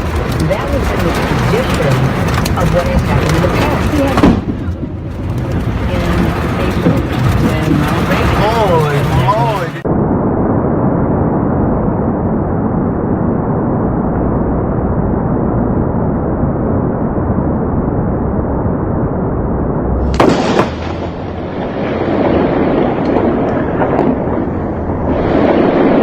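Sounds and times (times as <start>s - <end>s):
rushing storm noise: 0.0s - 26.0s
thunderclap trailing into rumble: 0.0s - 26.0s.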